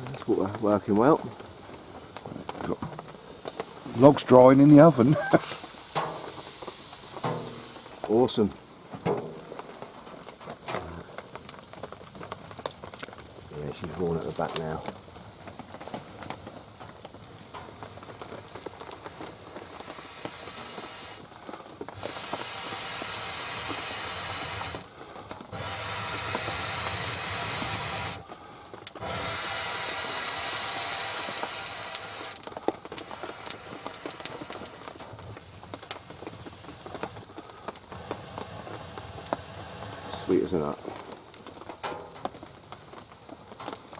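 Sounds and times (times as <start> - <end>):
loud steady hiss: 0.0 - 43.9
rain falling: 0.0 - 43.9
wood fire crackling and hissing: 0.0 - 43.9.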